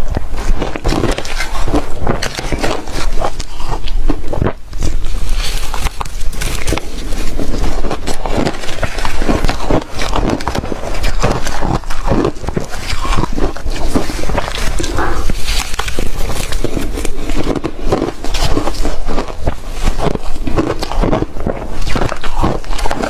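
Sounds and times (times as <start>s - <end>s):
person crunching ice: 0.0s - 23.0s.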